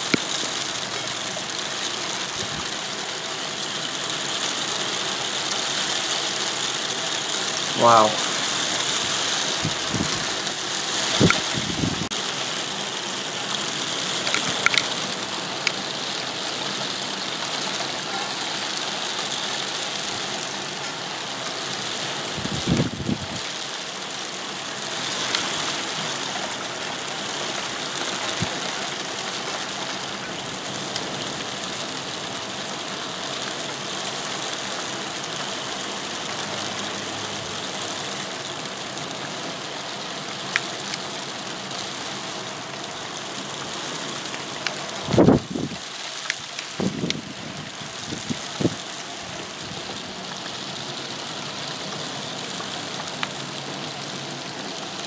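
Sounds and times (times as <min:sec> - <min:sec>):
hail pattering on roof: 0:00.0 - 0:55.0.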